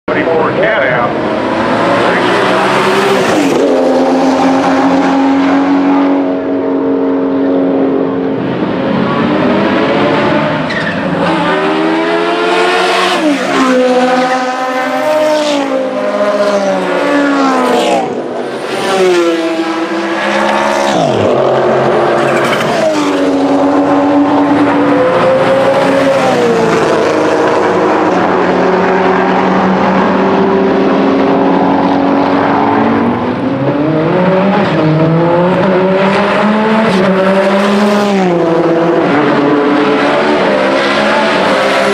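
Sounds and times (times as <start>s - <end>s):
race car engines revving past: 0.1s - 41.9s.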